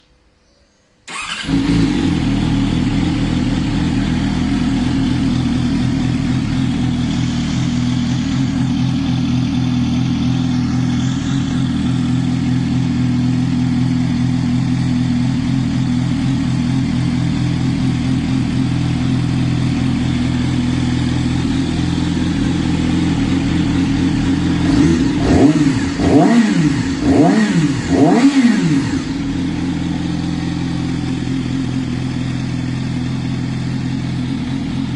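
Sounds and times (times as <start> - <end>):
motorcycle engine starting: 1.0 - 34.9
motorcycle engine idling: 1.1 - 34.9
motorcycle engine revving: 1.1 - 34.9.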